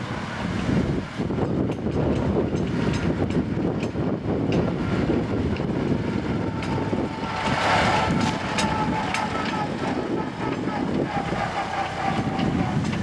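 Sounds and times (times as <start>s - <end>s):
steady whine: 0.0s - 13.0s
tractor engine running: 0.0s - 13.0s.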